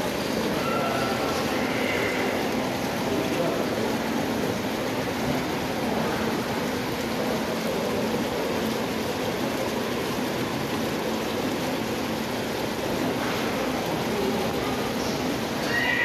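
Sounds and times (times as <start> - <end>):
fountain jets splashing into pool: 0.0 - 16.0.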